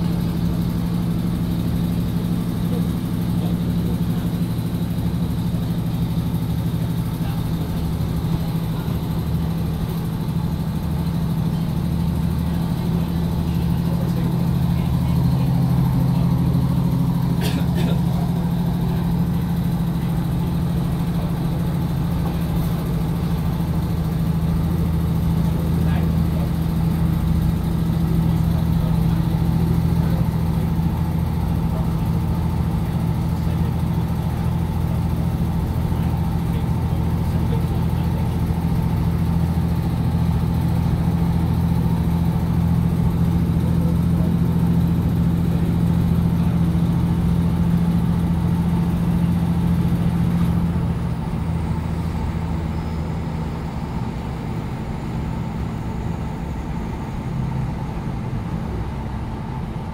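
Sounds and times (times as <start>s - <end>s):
train engine drone: 0.0s - 59.9s.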